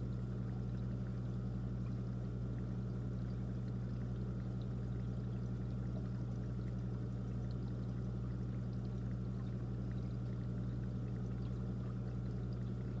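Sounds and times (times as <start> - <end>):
low constant hum: 0.0 - 13.0
water trickling: 0.0 - 13.0.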